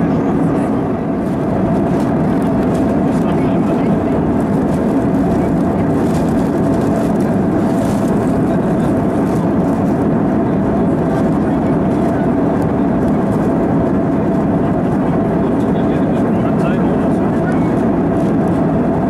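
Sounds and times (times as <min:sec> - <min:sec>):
airliner cabin engine roar: 0:00.0 - 0:19.0.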